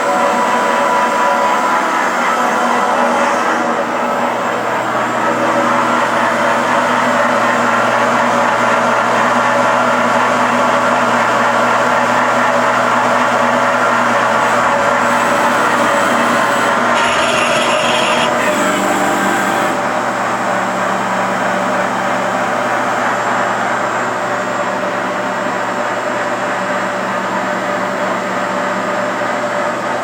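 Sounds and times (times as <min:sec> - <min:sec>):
lathe humming with high whine: 0:00.0 - 0:26.1.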